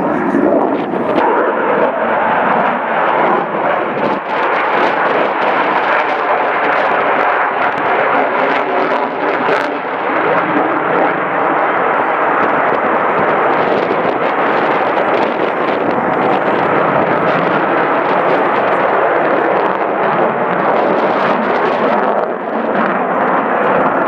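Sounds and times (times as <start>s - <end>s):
fighter jet roar: 0.0s - 24.0s.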